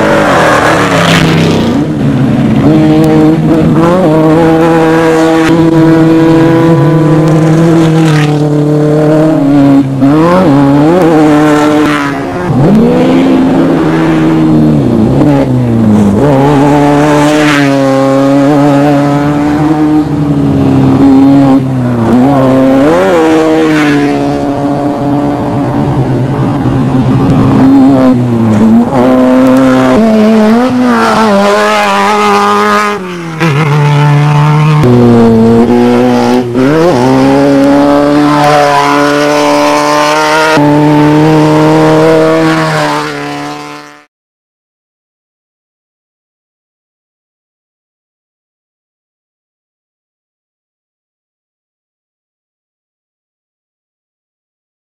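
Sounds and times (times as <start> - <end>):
race vehicle engine revving: 0.0 - 44.1.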